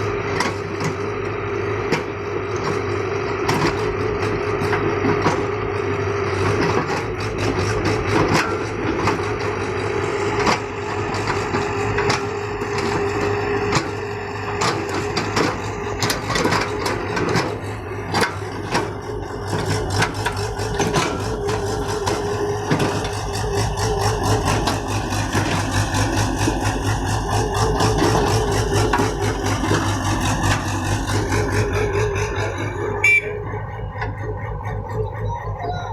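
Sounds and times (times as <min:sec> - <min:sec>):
engine running: 0:00.0 - 0:35.9
knocks and clatter: 0:01.8 - 0:05.6, 0:06.4 - 0:33.0.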